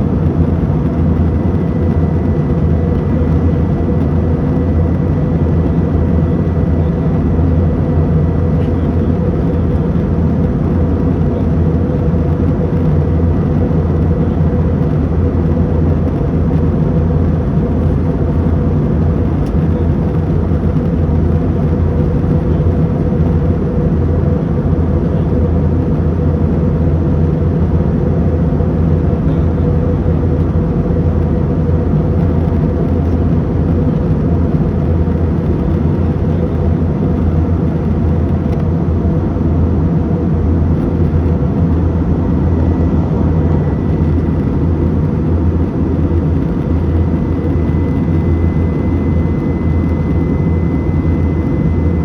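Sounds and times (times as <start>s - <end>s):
airliner engine hum: 0.0s - 52.0s.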